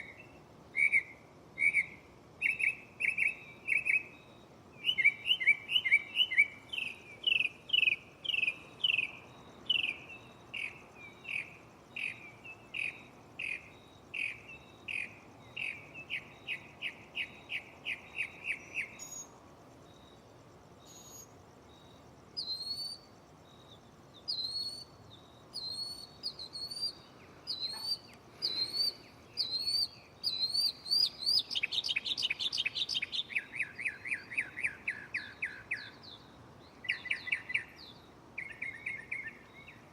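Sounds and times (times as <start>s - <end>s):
mockingbird singing: 0.0s - 19.4s, 20.8s - 39.9s.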